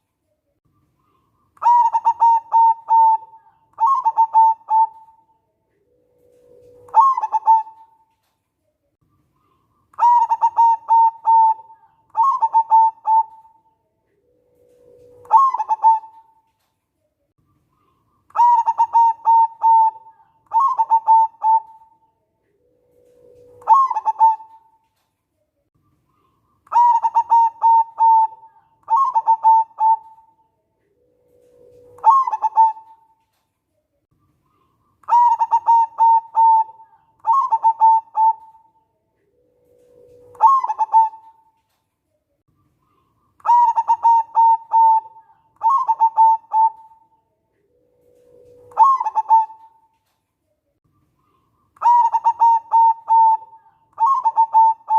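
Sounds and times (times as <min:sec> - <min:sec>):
dove cooing song: 0:00.8 - 0:08.3, 0:09.1 - 0:16.7, 0:17.6 - 0:25.0, 0:26.0 - 0:33.4, 0:34.4 - 0:41.8, 0:42.7 - 0:50.2, 0:51.0 - 0:54.9.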